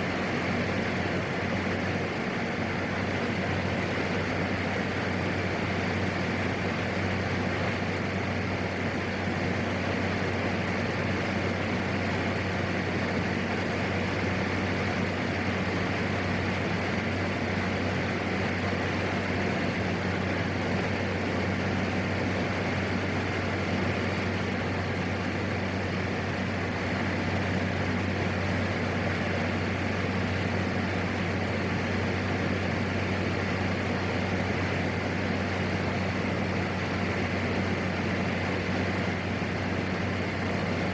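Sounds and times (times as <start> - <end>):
turboprop engine drone: 0.0 - 40.9.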